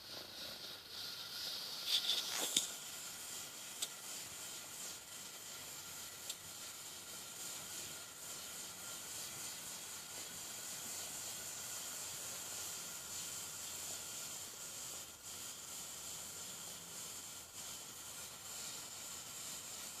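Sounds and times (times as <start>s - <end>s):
fuel burning with high hiss: 0.0s - 20.0s.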